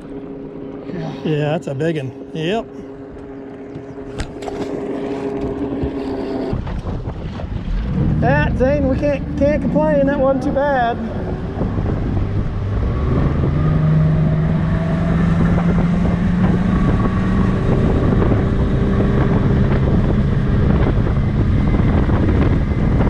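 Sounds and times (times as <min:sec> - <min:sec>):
outboard motor running: 0:00.0 - 0:23.0
wind buffeting microphone: 0:00.0 - 0:23.0.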